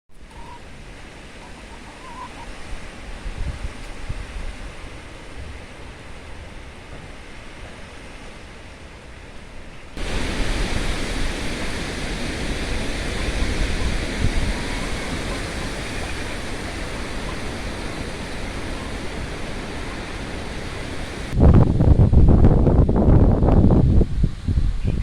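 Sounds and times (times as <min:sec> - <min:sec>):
strong wind blowing: 0:00.2 - 0:08.7, 0:10.0 - 0:25.0.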